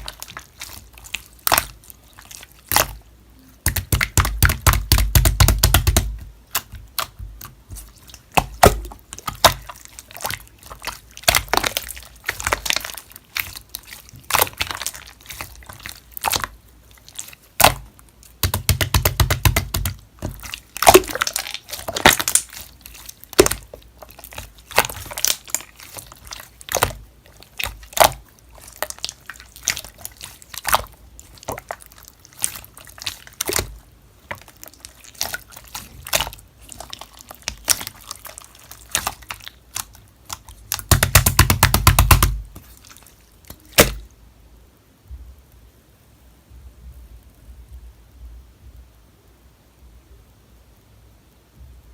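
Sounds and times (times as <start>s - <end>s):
slime squelching: 0.0s - 44.2s.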